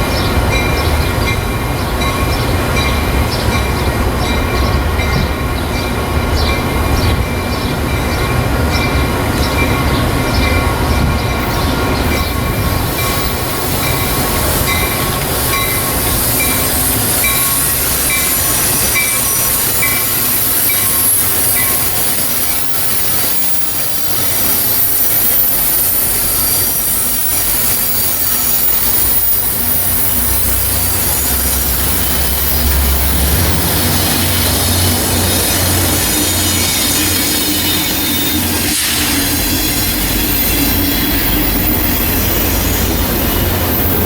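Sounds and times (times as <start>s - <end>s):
diesel locomotive engine rumble: 0.0s - 44.0s
train rumble: 0.0s - 44.0s
train wheels squealing on rails: 0.0s - 44.0s.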